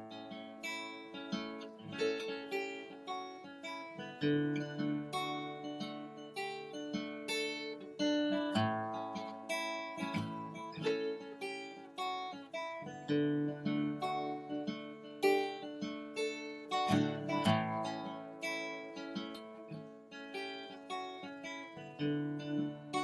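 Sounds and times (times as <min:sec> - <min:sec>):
acoustic guitar picking and strumming: 0:00.0 - 0:23.0.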